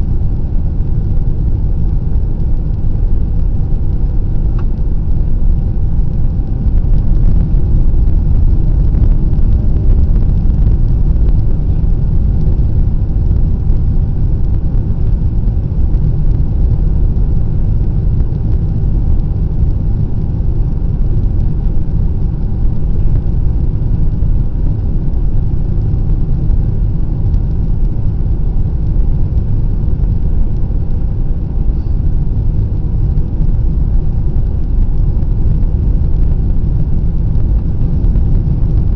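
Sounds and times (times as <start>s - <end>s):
faint hum: 0.0s - 38.9s
jet engines rumbling: 0.0s - 38.9s
rushing air in a cabin: 0.0s - 38.9s.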